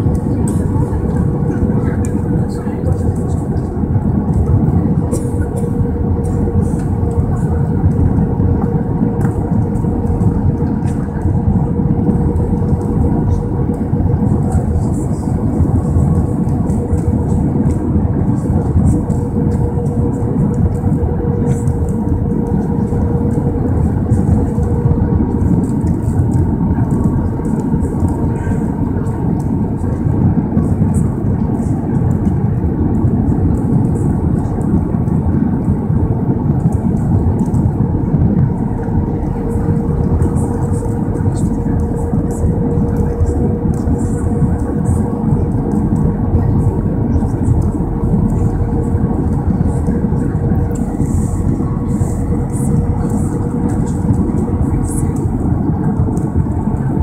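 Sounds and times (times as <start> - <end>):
jet engines and airflow rush: 0.0 - 57.0
thin steady whine: 0.0 - 57.0.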